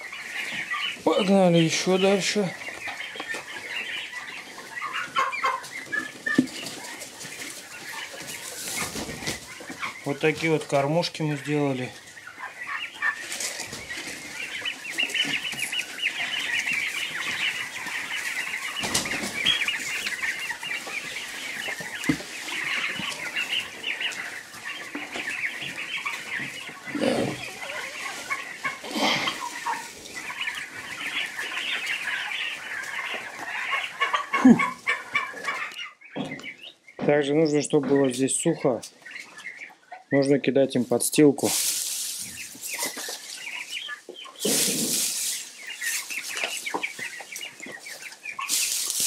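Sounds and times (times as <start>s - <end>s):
turkey poults peeping: 0.0s - 49.0s.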